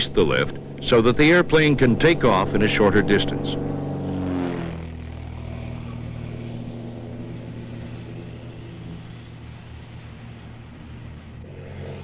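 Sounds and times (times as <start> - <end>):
propeller airplane engine drone: 0.0 - 12.0.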